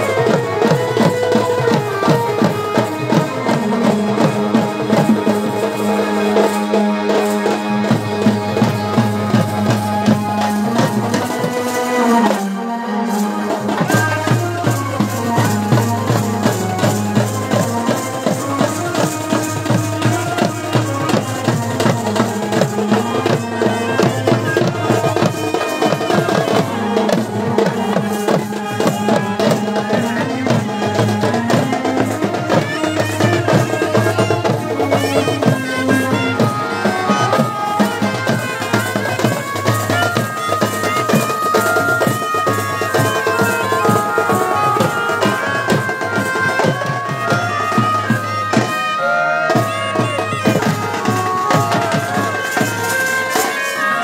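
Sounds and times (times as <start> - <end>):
shrill reed pipe melody: 0.0 - 54.0.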